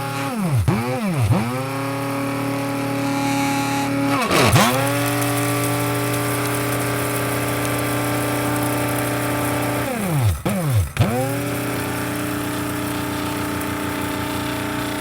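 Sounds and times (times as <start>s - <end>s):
electric coffee grinder humming: 0.0s - 15.0s.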